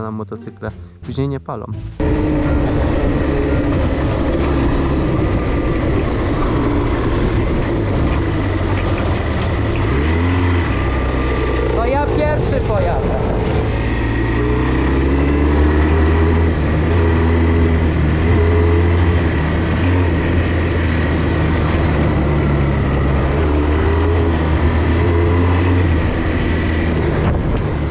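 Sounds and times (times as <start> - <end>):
quad bike engine running: 2.0 - 27.9.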